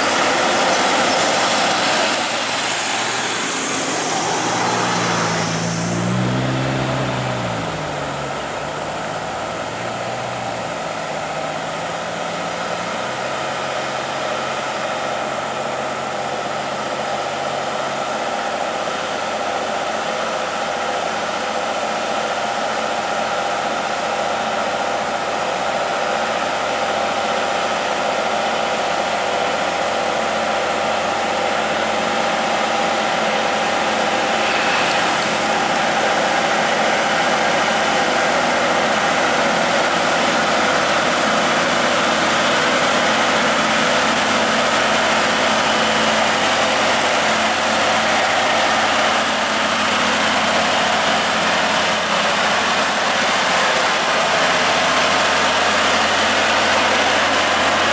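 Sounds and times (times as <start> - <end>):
truck diesel engine droning: 0.0 - 57.9.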